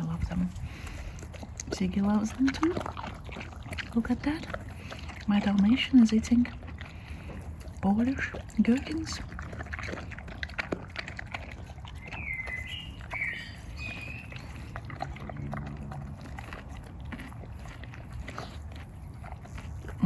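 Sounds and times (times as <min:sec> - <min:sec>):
dog chewing with wet crunching: 0:00.0 - 0:20.0.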